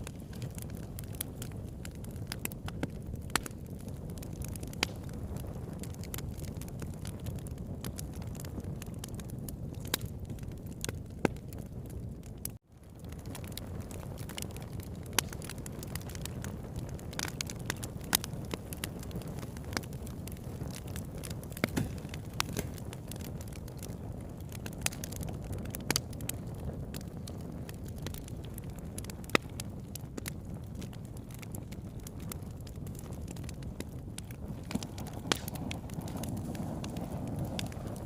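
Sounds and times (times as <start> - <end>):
flames rushing: 0.0 - 38.0
wood crackles and pops: 0.0 - 38.0.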